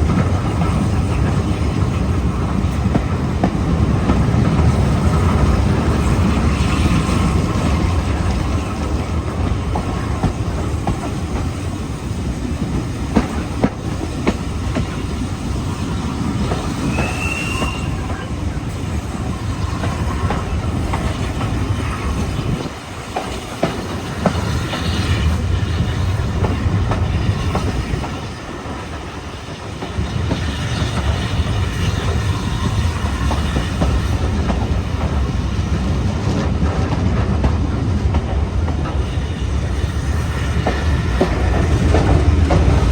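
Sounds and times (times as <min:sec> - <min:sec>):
train wheel squeal: 0:00.0 - 0:37.0, 0:38.6 - 0:42.9
train rumbling on track: 0:00.0 - 0:42.9.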